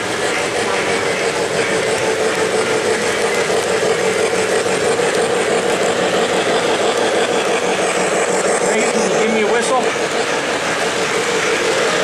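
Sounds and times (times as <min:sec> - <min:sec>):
constant hum: 0:00.0 - 0:12.0
model train wheels on track: 0:00.0 - 0:12.0.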